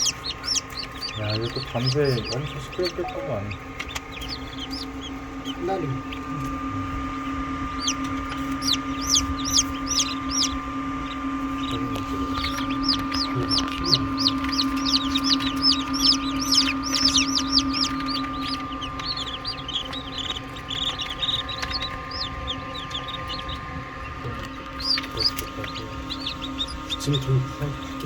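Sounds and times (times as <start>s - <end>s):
chicks peeping: 0.0s - 28.0s
steady hum: 0.0s - 28.0s.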